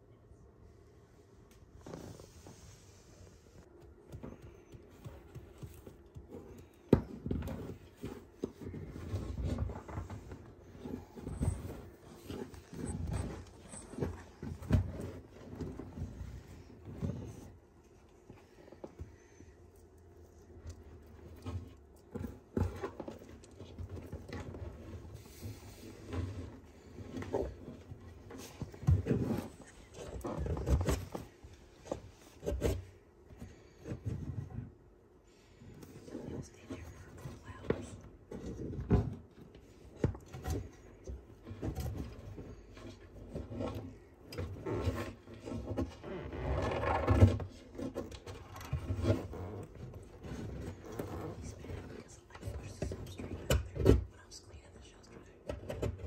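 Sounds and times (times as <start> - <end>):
rustling scrape: 1.8 - 3.6, 4.3 - 19.5, 20.3 - 34.7, 35.6 - 53.9
tortoise knocking and scraping: 3.6 - 17.6, 20.5 - 34.7, 35.8 - 54.1.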